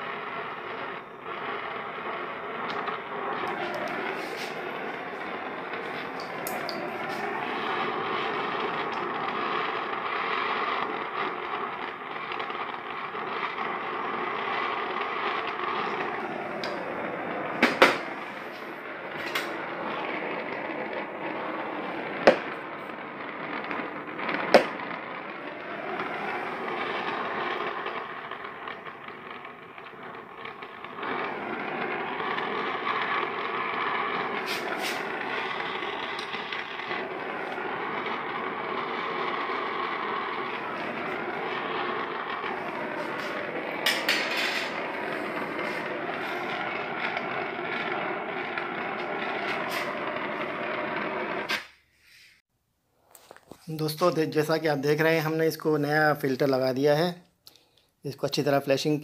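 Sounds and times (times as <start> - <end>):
brazing torch flame hissing: 0.0 - 52.5.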